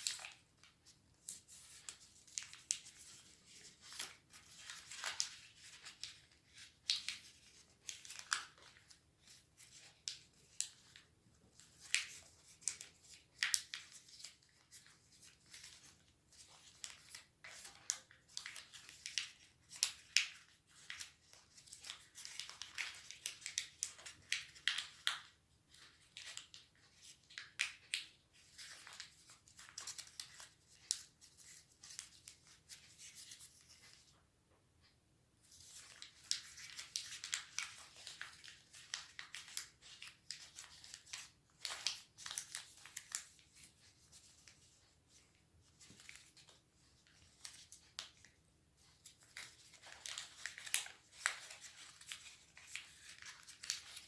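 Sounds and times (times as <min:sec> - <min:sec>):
paper being folded and creased: 0:00.0 - 0:34.1, 0:35.4 - 0:54.0.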